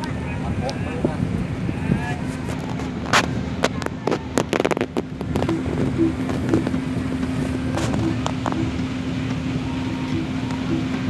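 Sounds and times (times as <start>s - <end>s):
ferry engine humming: 0.0s - 11.0s
wind noise on microphone: 0.0s - 11.0s.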